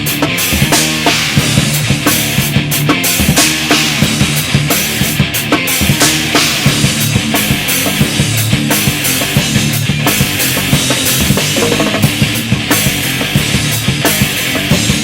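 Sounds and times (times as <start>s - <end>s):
hard-hit drum strokes: 0.0s - 15.0s
heavy rock band playing: 0.0s - 15.0s.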